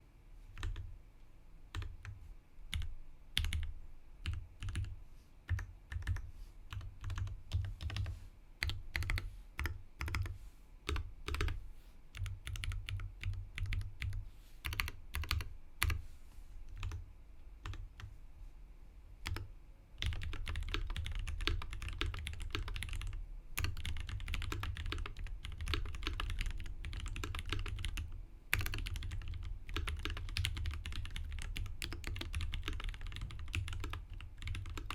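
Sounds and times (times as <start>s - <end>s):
typing on mechanical keyboard: 0.6s - 0.9s, 1.7s - 16.0s, 16.7s - 17.0s, 19.3s - 34.9s.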